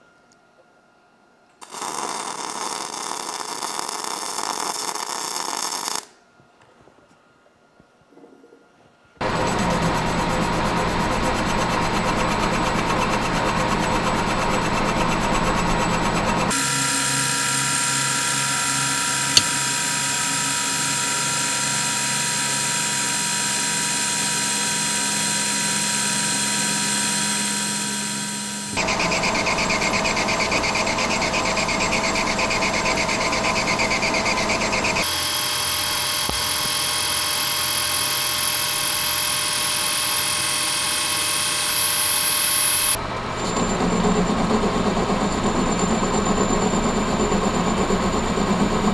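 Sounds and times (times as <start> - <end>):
metal lathe cutting metal tube: 9.2 - 48.9.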